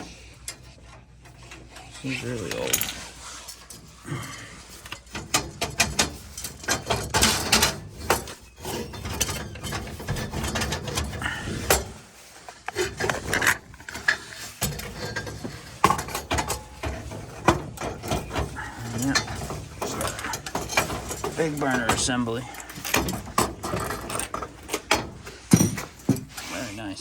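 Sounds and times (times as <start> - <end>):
metal clicks and scrapes: 0.0 - 26.8.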